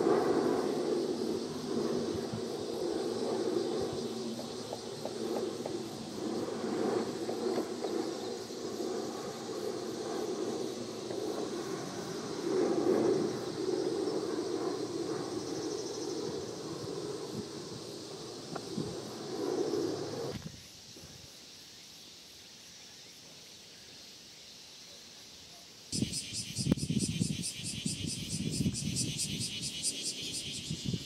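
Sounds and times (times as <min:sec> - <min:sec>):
distant jet airliner rumble: 0:00.0 - 0:20.4, 0:26.0 - 0:31.0
insects chirring: 0:00.0 - 0:31.0.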